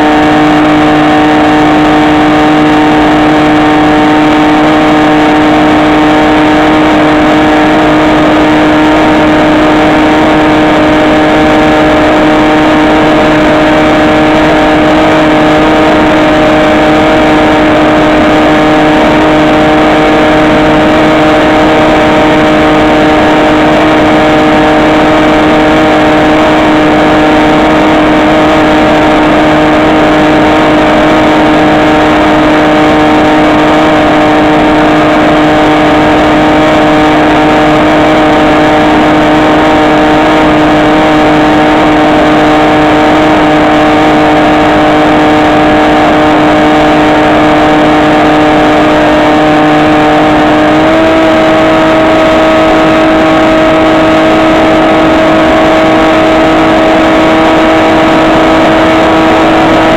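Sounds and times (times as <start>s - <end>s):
model plane electric motor humming: 0.0s - 59.9s.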